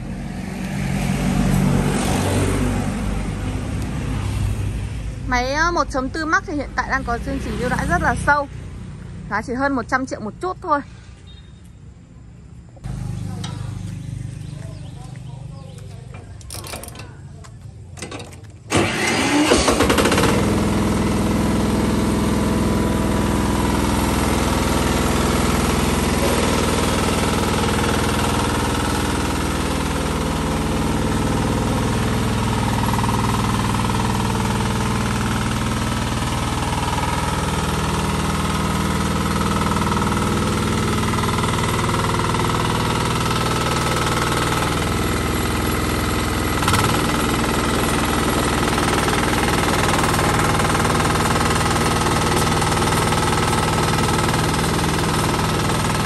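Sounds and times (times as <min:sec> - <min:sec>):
engine starting and running: 0:00.0 - 0:11.4, 0:12.7 - 0:56.0.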